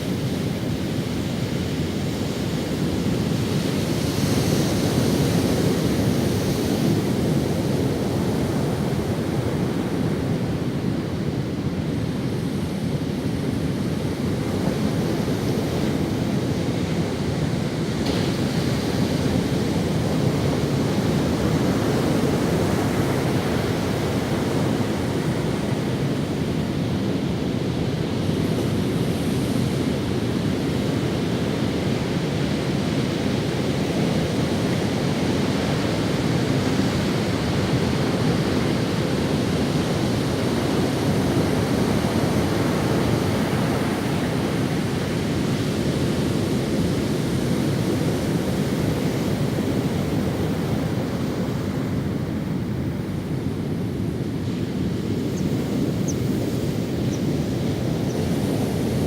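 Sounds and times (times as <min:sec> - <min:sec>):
ocean waves on beach: 0:00.0 - 0:59.0
wind on microphone: 0:00.0 - 0:59.0.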